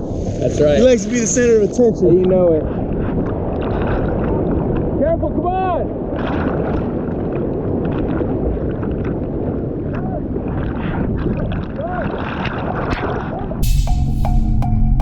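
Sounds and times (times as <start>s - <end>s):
seawater sloshing and rushing: 0.0s - 5.2s, 5.8s - 13.6s
wind buffeting microphone: 0.0s - 13.6s.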